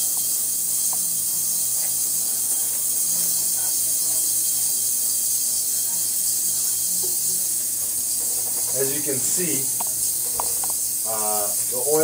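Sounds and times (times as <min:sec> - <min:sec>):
high-pitched hiss of cavitating water: 0:00.0 - 0:12.0.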